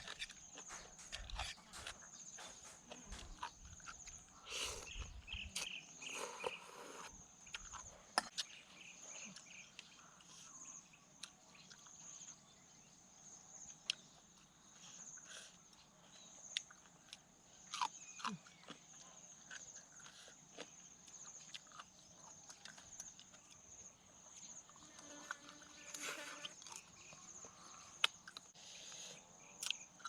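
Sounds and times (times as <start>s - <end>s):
crunchy eating sounds: 0.0s - 30.0s.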